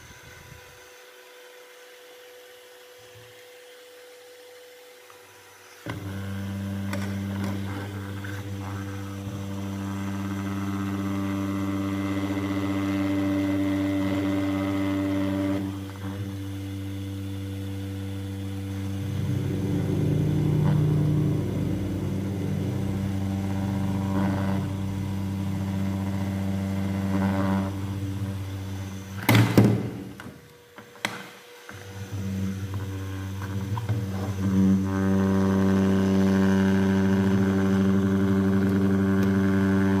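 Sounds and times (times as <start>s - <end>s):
handheld fan humming: 0.0s - 40.0s.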